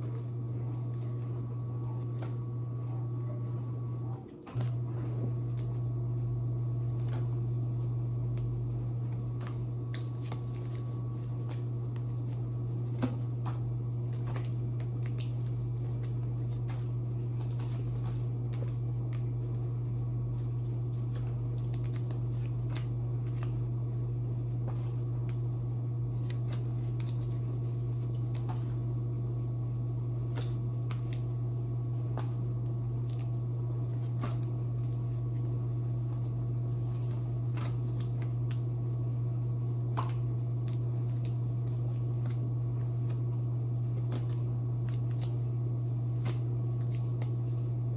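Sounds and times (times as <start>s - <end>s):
cardboard cards clicking and rustling: 0.0s - 2.6s, 4.1s - 47.6s
dishwasher humming: 0.0s - 47.9s.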